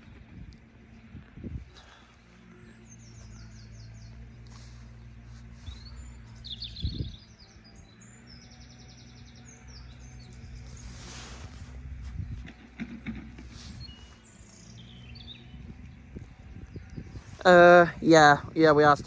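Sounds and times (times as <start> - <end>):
songbirds chirping and trilling: 0.0 - 19.0
steady low hum: 0.0 - 19.0.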